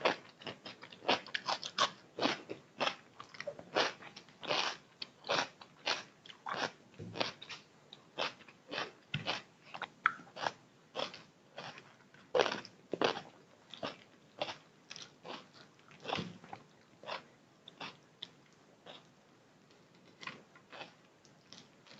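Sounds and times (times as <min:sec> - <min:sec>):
person chewing food: 0:00.0 - 0:19.1, 0:20.0 - 0:21.9.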